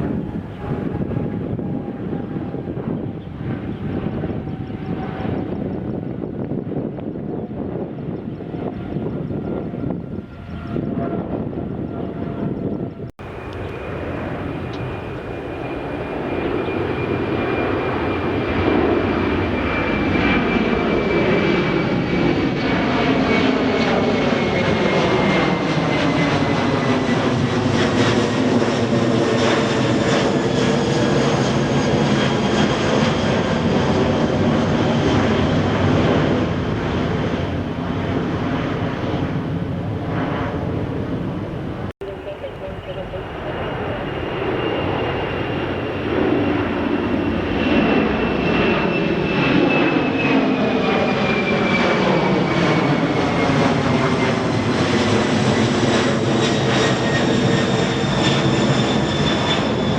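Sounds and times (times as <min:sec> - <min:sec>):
jet airliner engine roar: 0:00.0 - 0:59.9.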